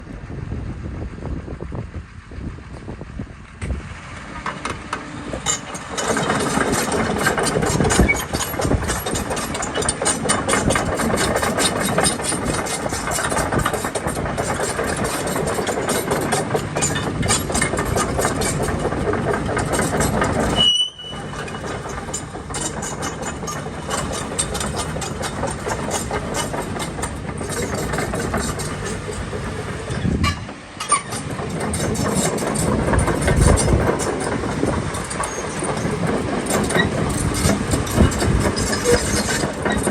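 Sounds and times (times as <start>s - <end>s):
excavator diesel engine clattering: 0.1s - 39.9s.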